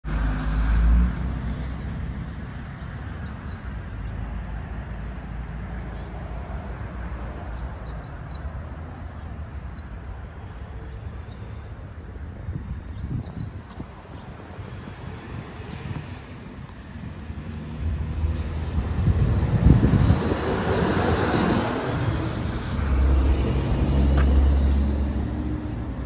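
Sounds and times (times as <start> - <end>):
steady low rumble: 4.9 - 26.0.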